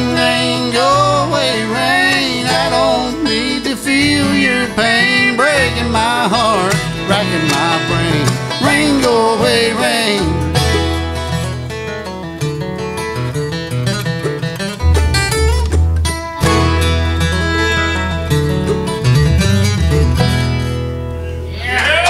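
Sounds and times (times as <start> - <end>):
fiddle lead: 0.0 - 12.0, 14.8 - 21.5
bluegrass band playing: 0.0 - 21.7.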